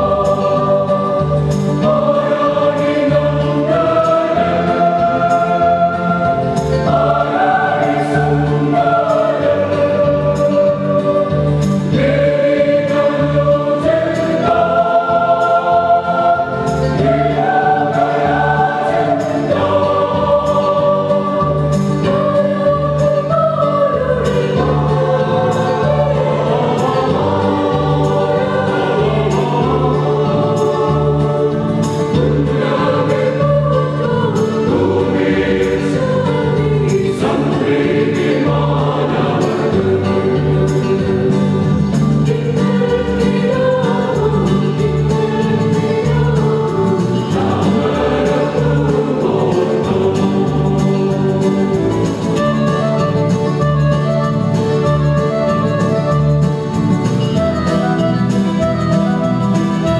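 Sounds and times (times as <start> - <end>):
church choir singing a carol: 0.0 - 59.9.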